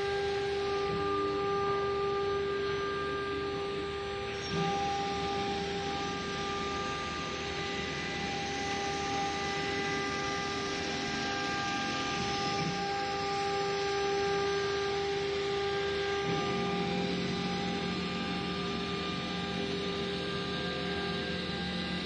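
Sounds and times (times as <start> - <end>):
milling machine spindle whine: 0.0 - 22.0.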